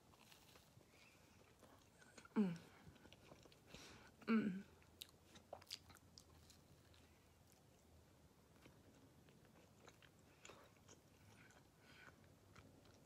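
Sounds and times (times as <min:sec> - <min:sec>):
person chewing pizza: 0:00.0 - 0:13.0.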